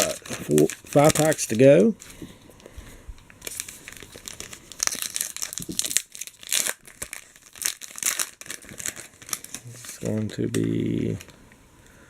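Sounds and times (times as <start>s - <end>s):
wrapper tearing and crinkling: 0.0s - 2.1s, 3.4s - 11.3s.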